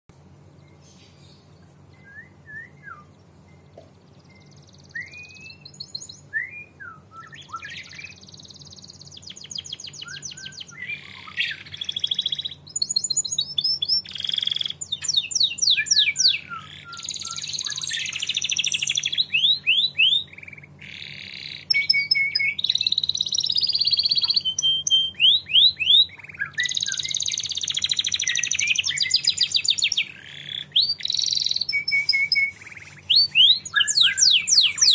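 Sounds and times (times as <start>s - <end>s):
canary singing: 0.4s - 34.9s.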